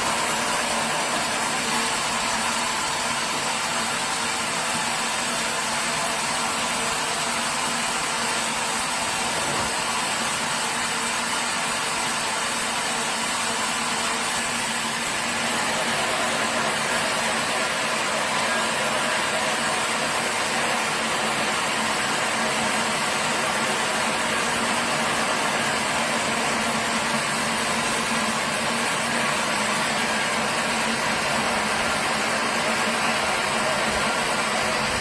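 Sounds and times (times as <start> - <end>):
sawmill machinery running: 0.0 - 35.0.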